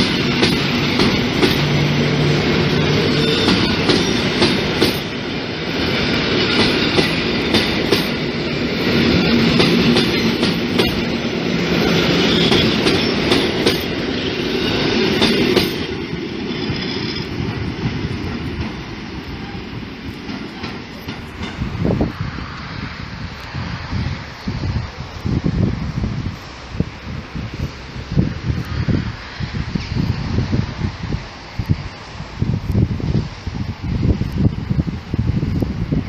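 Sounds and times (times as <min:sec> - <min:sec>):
electric train rumbling past: 0:00.0 - 0:36.0.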